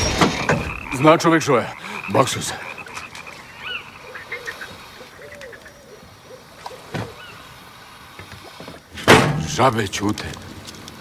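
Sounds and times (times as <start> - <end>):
frogs croaking: 0.0 - 8.9.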